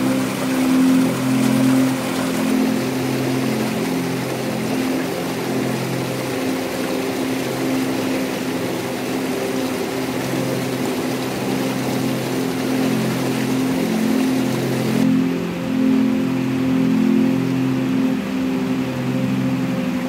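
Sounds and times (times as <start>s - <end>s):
slow music with low notes: 0.0s - 20.0s
water rushing over rocks: 0.0s - 20.0s.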